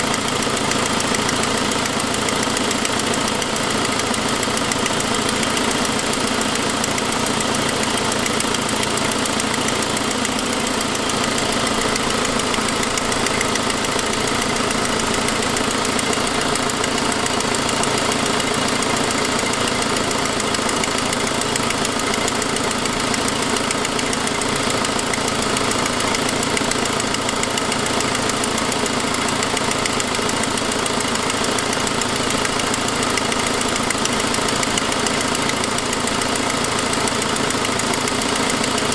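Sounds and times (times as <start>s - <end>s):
car engine running: 0.0s - 38.9s
exhaust leak ticking: 0.0s - 38.9s.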